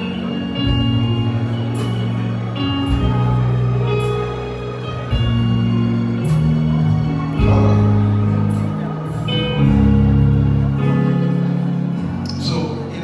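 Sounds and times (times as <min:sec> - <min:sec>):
held bass notes: 0:00.0 - 0:13.0.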